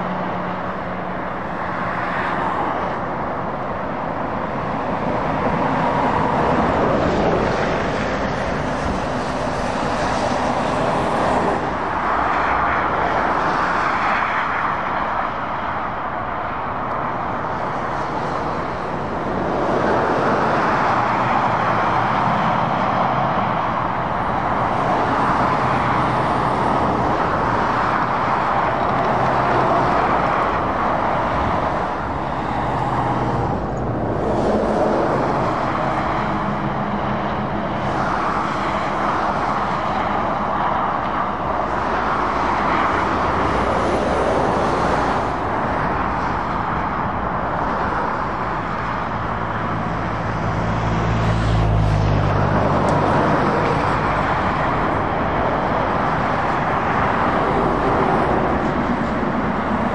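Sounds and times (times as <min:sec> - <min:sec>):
lorry diesel engines humming: 0:00.0 - 0:59.9
tyre noise from traffic: 0:00.0 - 0:59.9.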